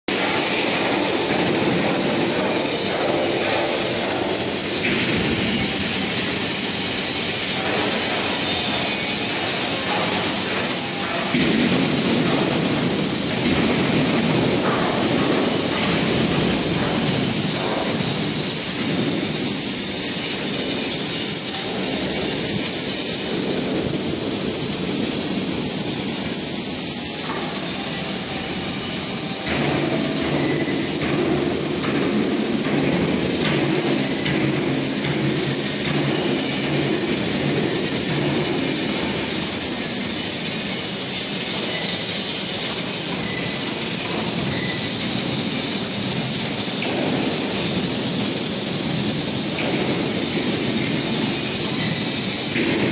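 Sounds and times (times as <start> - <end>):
factory rumble: 0.1 - 52.9
hiss: 0.1 - 52.9.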